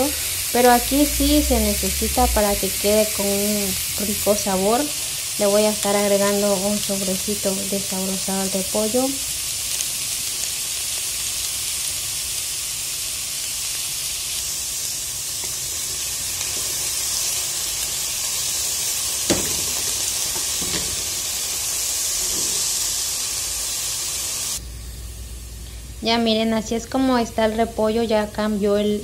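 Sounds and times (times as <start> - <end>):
cabbage sizzling in a pot: 0.0 - 29.0.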